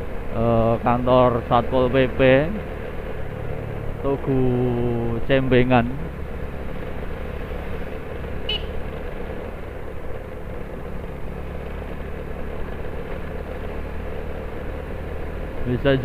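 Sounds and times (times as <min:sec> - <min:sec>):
motorcycle running: 0:00.0 - 0:16.0
wind and road noise: 0:00.0 - 0:16.0.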